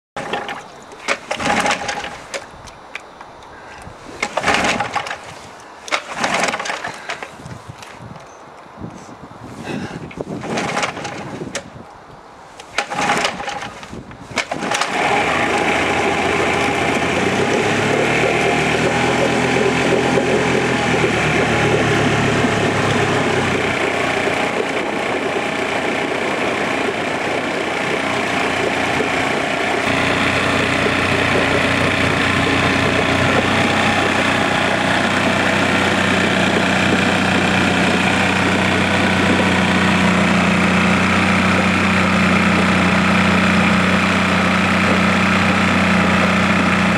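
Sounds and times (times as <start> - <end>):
outboard motor running: 0.2 - 2.8, 3.4 - 7.5, 9.6 - 11.7, 12.6 - 46.9.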